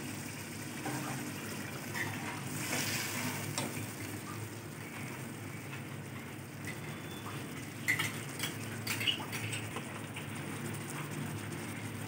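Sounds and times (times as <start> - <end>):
curry simmering in a pot: 0.0 - 12.0.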